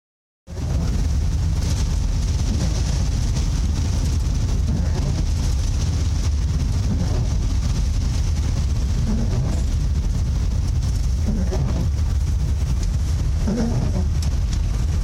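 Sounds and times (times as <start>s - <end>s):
vehicle driving rumble: 0.5s - 15.0s.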